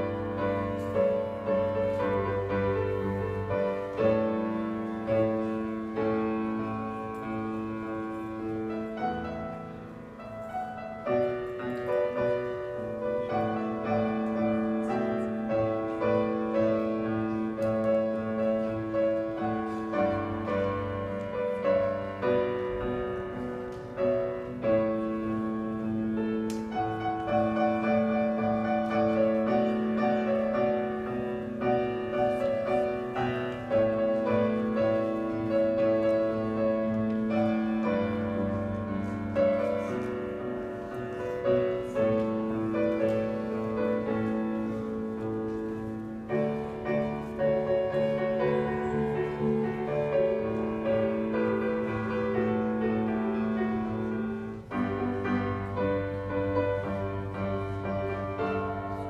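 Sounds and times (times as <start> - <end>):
solo grand piano chords: 0.0 - 59.0.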